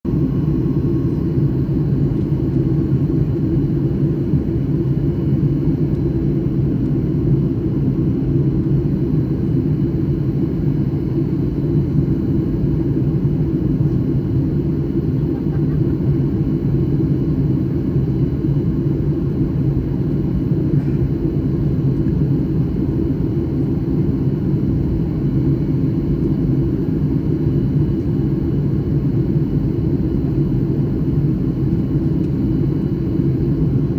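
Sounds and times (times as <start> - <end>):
deep jet rumble: 0.1 - 33.9.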